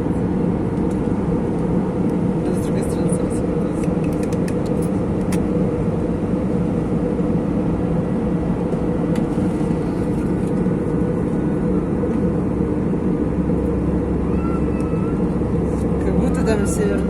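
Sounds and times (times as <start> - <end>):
airliner engines droning: 0.0 - 17.0.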